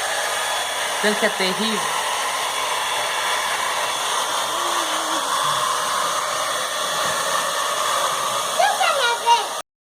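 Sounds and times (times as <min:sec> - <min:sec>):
hair dryer blowing: 0:00.0 - 0:09.6.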